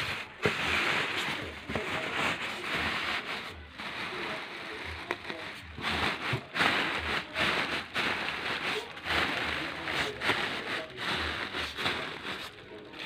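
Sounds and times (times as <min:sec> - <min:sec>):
plastic liner rustling and crinkling: 0:00.0 - 0:13.0.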